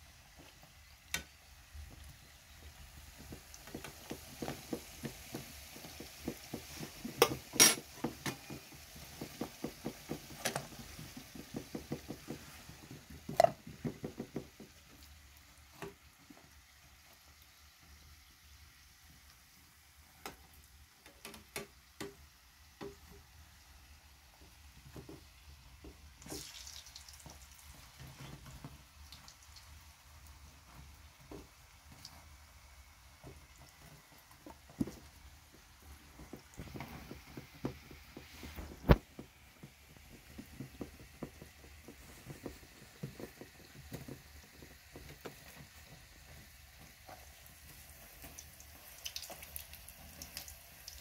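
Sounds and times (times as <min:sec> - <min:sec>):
pastries deep-frying in oil: 0:00.0 - 0:51.0.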